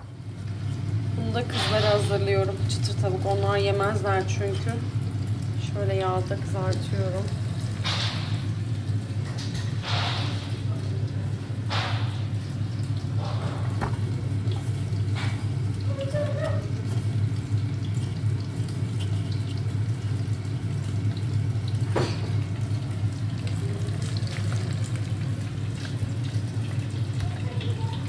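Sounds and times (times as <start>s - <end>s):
oil sizzling in a pot: 0.0s - 28.0s.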